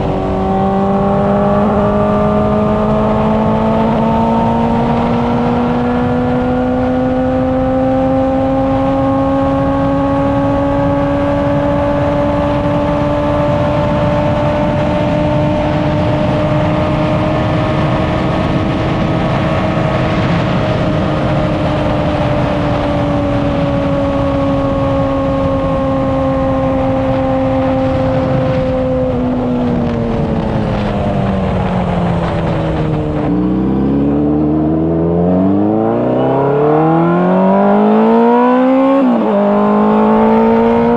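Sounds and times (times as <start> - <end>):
loud wind rush: 0.0 - 40.9
motorcycle engine cruising: 0.0 - 40.9.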